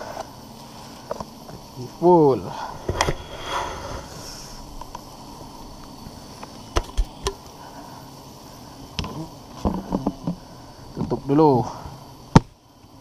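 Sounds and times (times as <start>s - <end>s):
bees buzzing faintly: 0.0s - 13.0s
insect drone: 0.0s - 13.0s.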